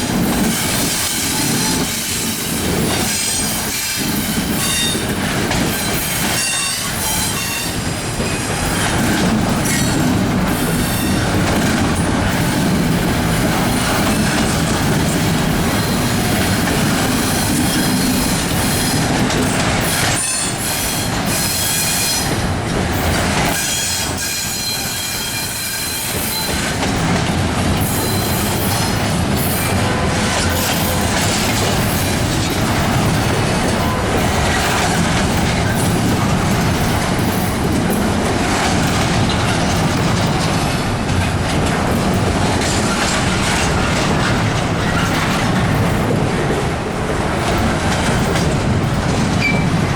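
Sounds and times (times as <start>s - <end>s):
freight train rumbling past: 0.0s - 49.9s
wheels clacking over rail joints: 0.0s - 49.9s.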